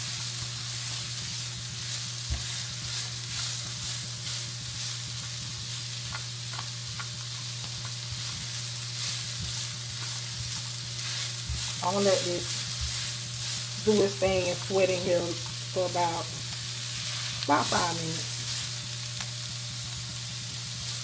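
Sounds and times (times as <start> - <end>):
onions sizzling in oil: 0.0 - 21.0
utensil stirring and clicking on pan: 0.1 - 21.0.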